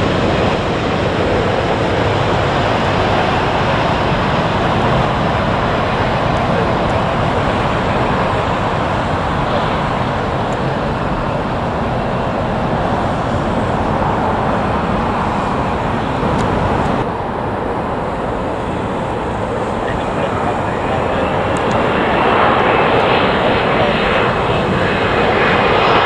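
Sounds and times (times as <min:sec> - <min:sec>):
jet airliner engine noise: 0:00.0 - 0:26.0.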